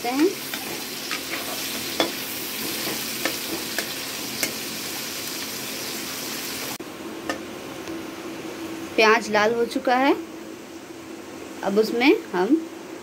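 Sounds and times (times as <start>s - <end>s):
onions sizzling in oil: 0.0s - 11.1s.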